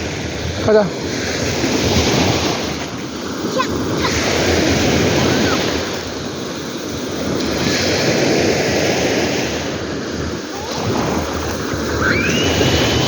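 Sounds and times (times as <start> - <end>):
sea waves on shore: 0.0 - 13.0.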